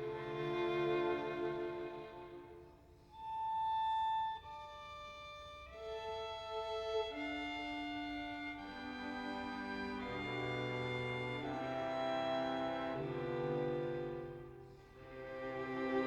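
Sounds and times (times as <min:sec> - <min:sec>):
slow violin and strings melody: 0:00.0 - 0:16.0.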